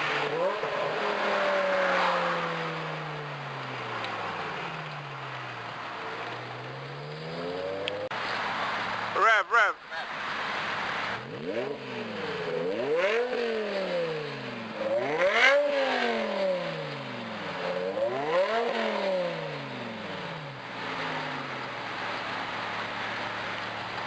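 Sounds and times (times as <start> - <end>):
car engine revving: 0.0 - 9.2, 10.2 - 24.0.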